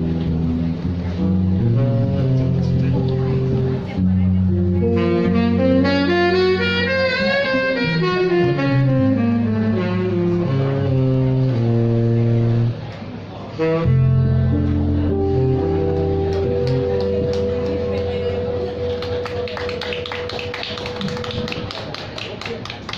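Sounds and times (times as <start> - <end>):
saxophone melody: 0.0 - 12.8, 13.6 - 21.6
bass: 0.0 - 21.7
guitar: 0.0 - 22.1.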